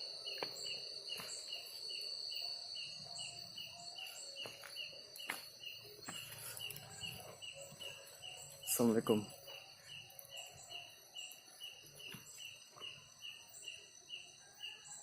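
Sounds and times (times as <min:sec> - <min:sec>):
crickets droning: 0:00.0 - 0:15.0
insect chirping: 0:00.0 - 0:15.0.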